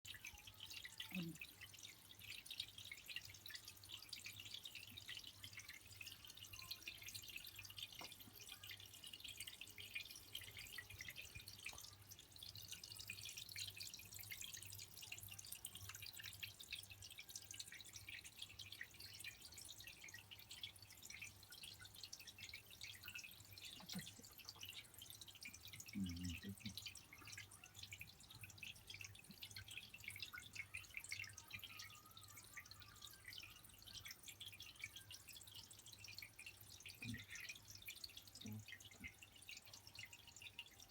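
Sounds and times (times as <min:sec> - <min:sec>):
water dripping into bathtub: 0:00.1 - 0:40.9.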